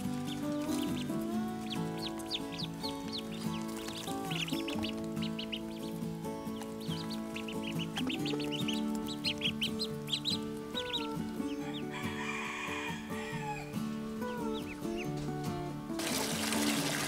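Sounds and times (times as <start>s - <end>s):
ducklings peeping: 0.0s - 16.0s
background music with held notes: 0.0s - 17.0s.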